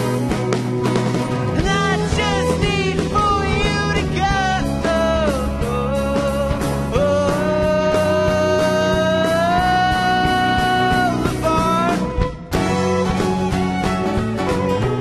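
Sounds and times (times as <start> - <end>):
folk band playing live: 0.0 - 15.0.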